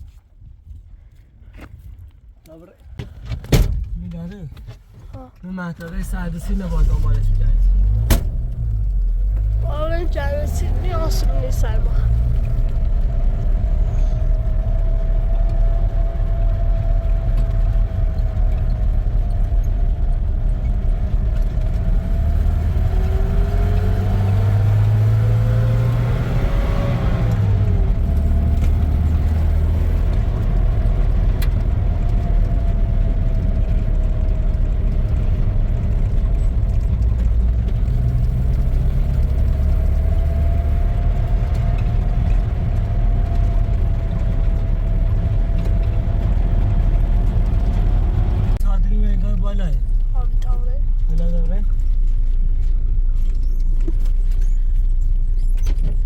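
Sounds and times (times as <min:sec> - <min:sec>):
vehicle engine running: 0:05.2 - 0:56.0.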